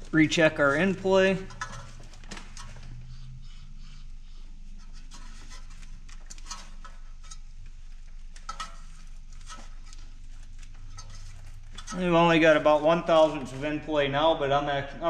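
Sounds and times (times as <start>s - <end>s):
light metal rubbing: 0.0s - 14.1s
low steady hum: 0.0s - 15.0s.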